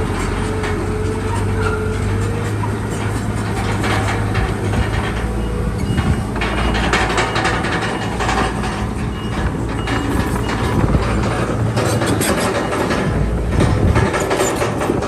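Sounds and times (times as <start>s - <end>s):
bulldozer diesel engine running: 0.0s - 15.0s
metallic clanking and rattling: 0.0s - 15.0s.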